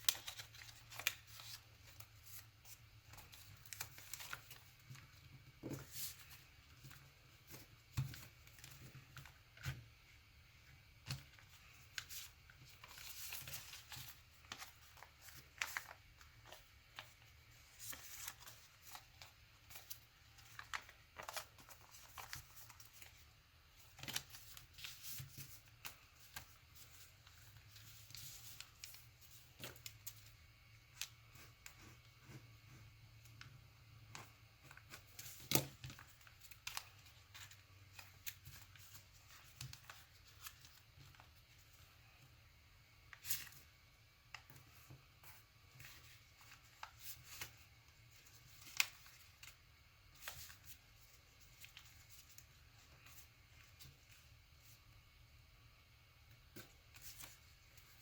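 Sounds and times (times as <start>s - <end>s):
paper rustling and clicking: 0.0s - 9.8s, 11.0s - 23.2s, 23.8s - 30.3s, 34.1s - 41.7s, 44.3s - 54.8s, 56.4s - 58.0s.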